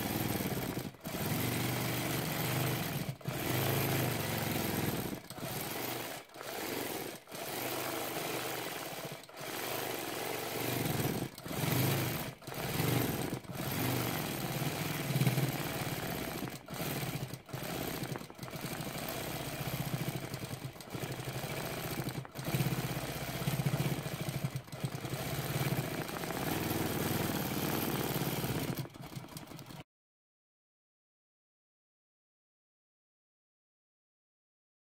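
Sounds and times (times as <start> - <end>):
quilting machine needle chatter: 0.1 - 29.8.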